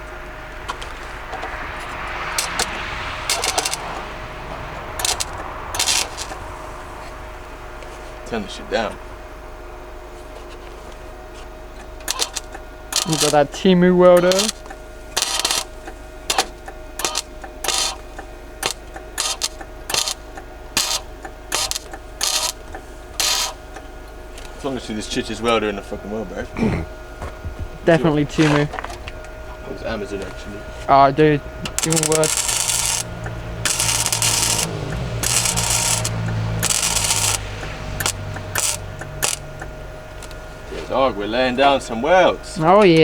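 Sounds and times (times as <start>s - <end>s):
welding arc crackling: 0.0s - 8.4s, 11.7s - 24.8s, 27.0s - 40.7s
faint steady hum: 0.0s - 43.0s.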